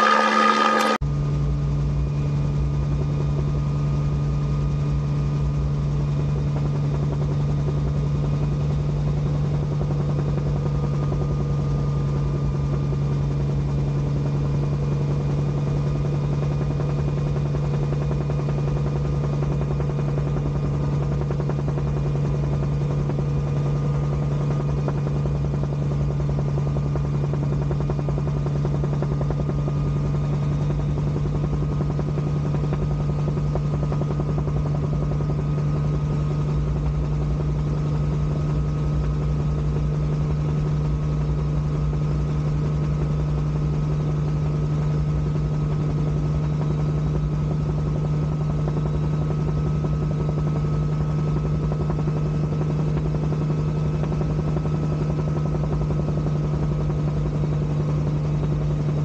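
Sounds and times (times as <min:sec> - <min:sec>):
helicopter engine and rotor hum: 0:00.0 - 0:59.0.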